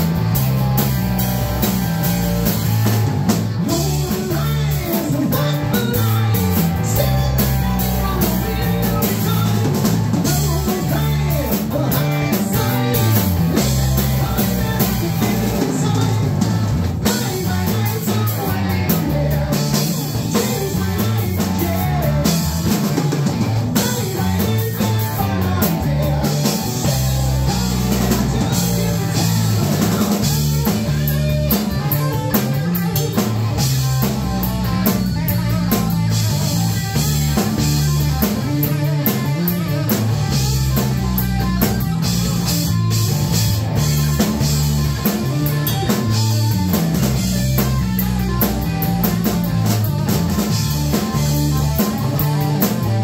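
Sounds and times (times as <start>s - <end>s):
drum kit with cymbals: 0.0s - 53.0s
electric bass: 0.0s - 53.0s
electric guitar: 0.0s - 53.0s.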